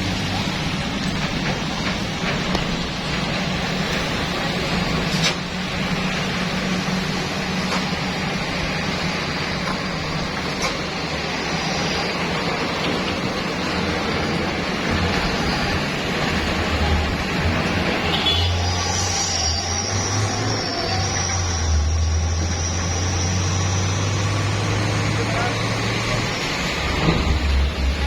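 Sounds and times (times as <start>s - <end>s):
heavy truck engine: 0.0s - 28.0s
rushing road noise: 0.0s - 28.0s.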